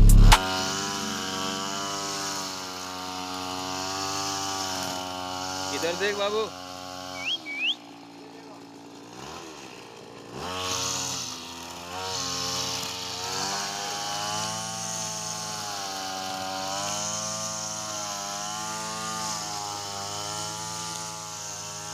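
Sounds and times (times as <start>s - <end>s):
small power tool engine running: 0.0s - 21.9s.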